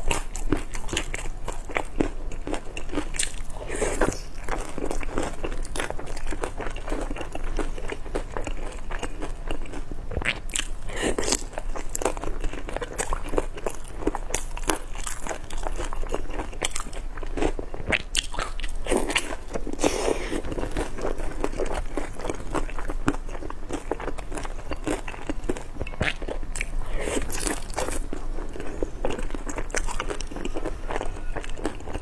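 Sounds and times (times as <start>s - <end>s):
chewing crisp buns: 0.0s - 32.0s.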